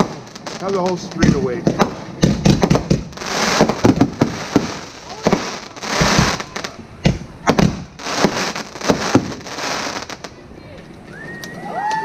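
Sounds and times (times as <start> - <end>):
fireworks bangs: 0.0 - 10.4
fireworks hiss: 0.0 - 10.4.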